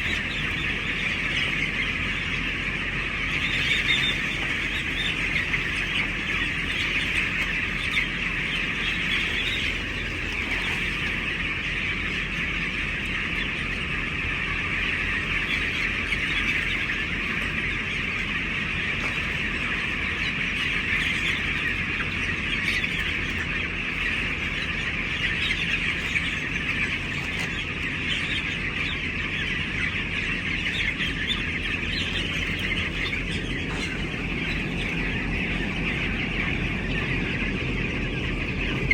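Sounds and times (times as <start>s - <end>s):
chickens chirping and calling: 0.0s - 38.9s.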